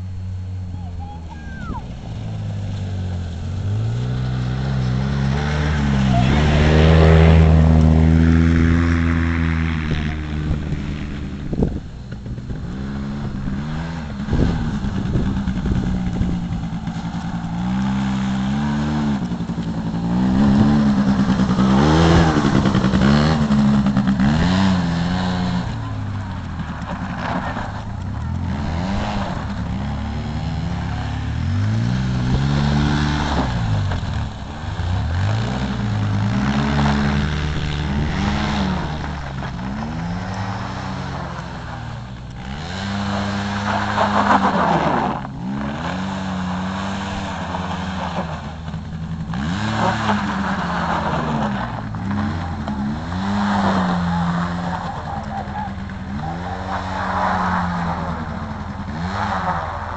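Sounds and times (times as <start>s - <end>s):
small engine revving: 0.7s - 59.9s.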